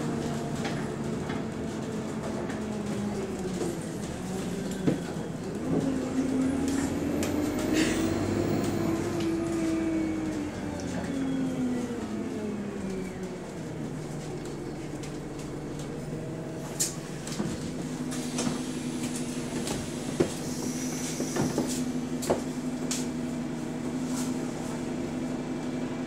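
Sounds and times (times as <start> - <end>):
bus engine idling: 0.0 - 26.0.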